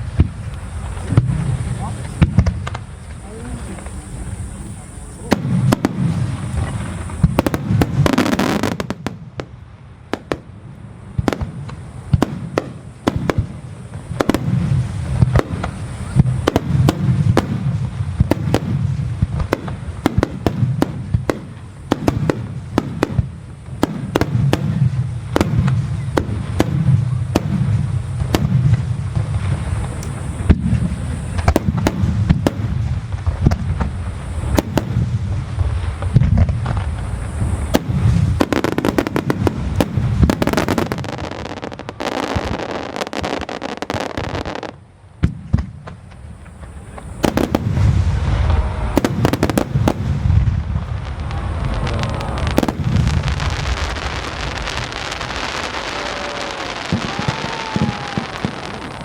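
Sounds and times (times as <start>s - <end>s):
firework hissing crackle: 0.0s - 59.0s
firework shells bursting: 0.0s - 59.0s.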